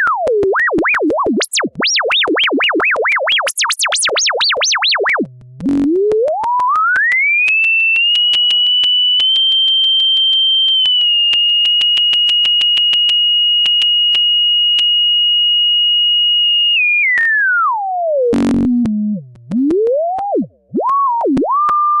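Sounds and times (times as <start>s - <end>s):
sine tone sweeping in pitch: 0.0s - 20.4s.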